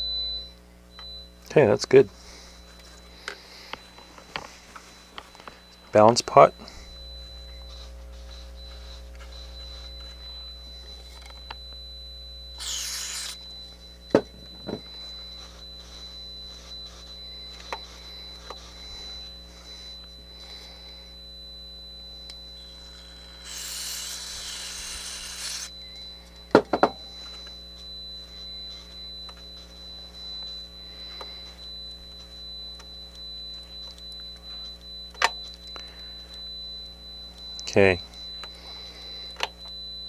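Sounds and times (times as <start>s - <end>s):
faint steady high tone: 0.0s - 40.0s.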